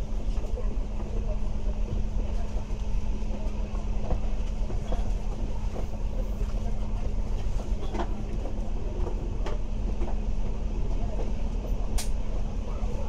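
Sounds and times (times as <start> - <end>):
bus engine and road rumble: 0.0 - 13.0
constant hum: 0.0 - 13.0.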